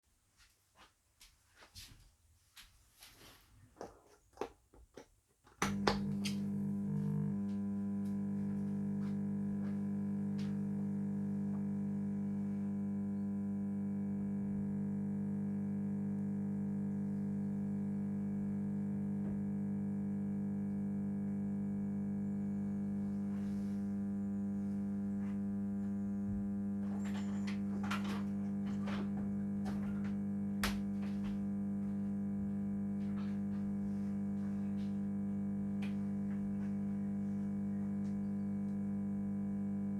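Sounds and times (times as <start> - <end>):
lamp ballast humming: 5.5 - 39.9.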